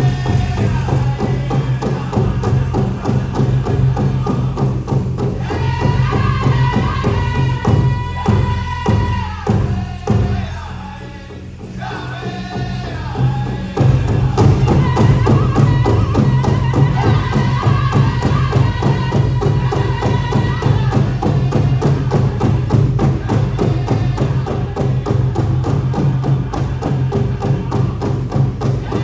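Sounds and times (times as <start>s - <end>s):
large drum beating: 0.0s - 10.6s, 11.6s - 29.0s
drum group singing: 0.0s - 29.0s.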